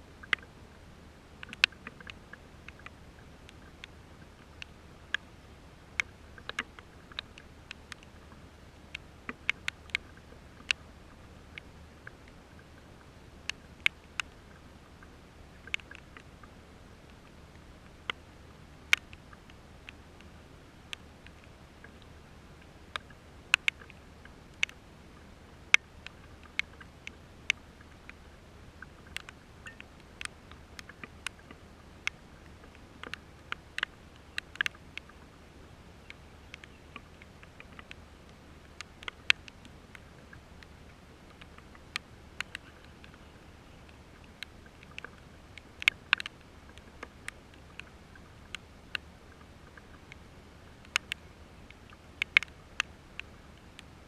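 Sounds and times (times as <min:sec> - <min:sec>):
low steady hiss: 0:00.0 - 0:54.0
raindrops tapping microphone: 0:00.0 - 0:54.0.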